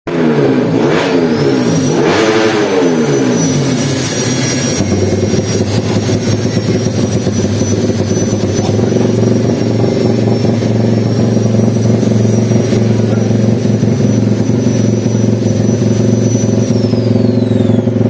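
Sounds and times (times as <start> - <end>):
motorcycle engine revving and idling: 0.1 - 18.0.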